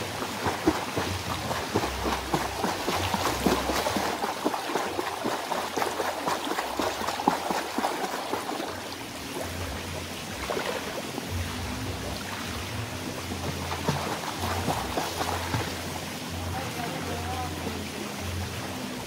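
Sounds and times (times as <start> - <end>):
pool water trickling and splashing: 0.0 - 19.0
water drips: 0.0 - 19.0.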